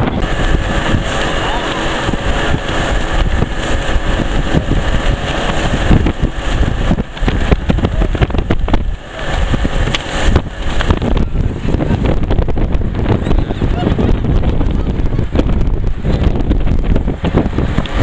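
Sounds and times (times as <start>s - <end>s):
churning wake: 0.0s - 18.0s
motorboat engine drone: 0.0s - 18.0s
wind buffeting microphone: 0.0s - 18.0s.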